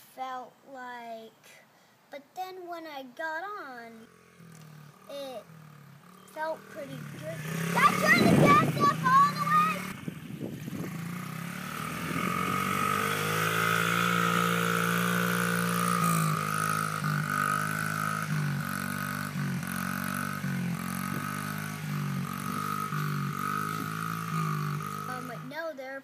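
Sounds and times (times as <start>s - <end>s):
dirt bike engine revving: 4.0s - 25.6s.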